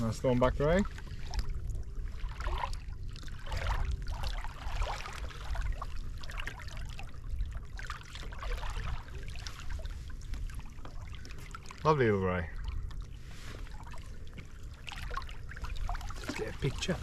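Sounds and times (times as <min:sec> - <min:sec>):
waves lapping against kayak hull: 0:00.0 - 0:17.0
wind rumble on microphone: 0:00.0 - 0:17.0.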